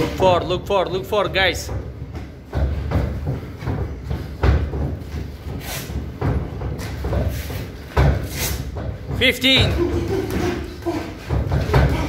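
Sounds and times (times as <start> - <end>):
boxing gloves thudding: 1.7 - 12.0.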